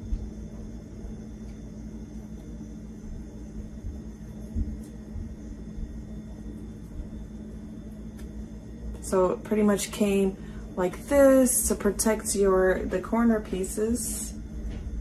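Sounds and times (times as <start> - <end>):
steady low rumble with hum: 0.0 - 15.0.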